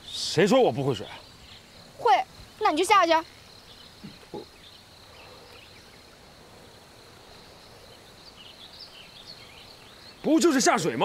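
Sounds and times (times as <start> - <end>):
high insect drone: 0.0 - 11.0
insect chirps: 0.0 - 11.0
soft background hiss: 0.0 - 11.0.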